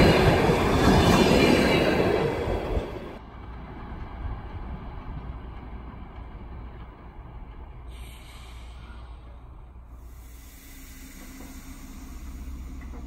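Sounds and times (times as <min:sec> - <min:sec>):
train engine hum: 0:00.0 - 0:13.0
train low rumble: 0:00.0 - 0:13.0.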